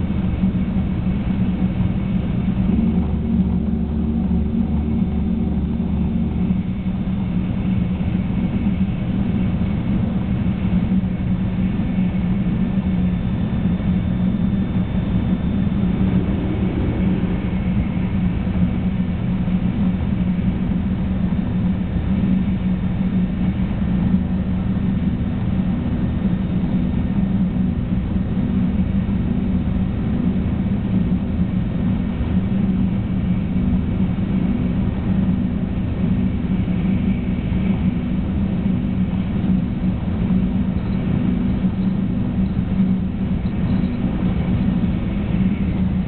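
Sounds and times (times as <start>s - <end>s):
faint high whine: 0.0s - 46.0s
train interior low rumble: 0.0s - 46.0s.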